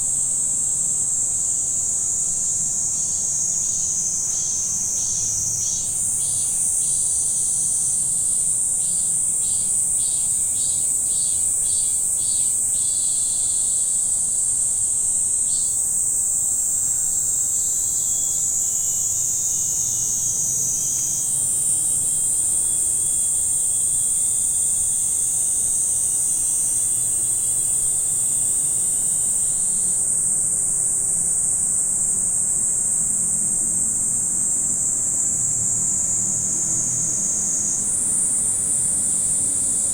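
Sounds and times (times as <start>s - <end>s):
insects buzzing: 0.0s - 39.9s
pulsing insect call: 2.7s - 39.9s.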